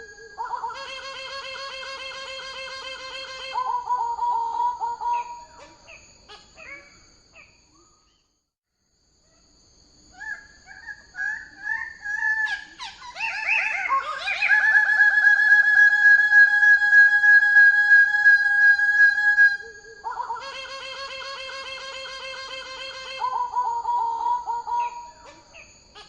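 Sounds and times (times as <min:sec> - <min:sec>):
bird harsh buzzy calls: 0:00.0 - 0:08.2, 0:10.1 - 0:26.0.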